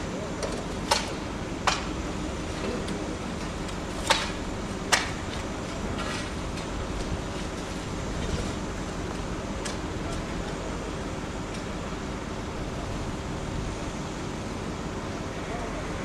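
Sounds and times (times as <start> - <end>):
rail vehicle rumbling: 0.0 - 16.0.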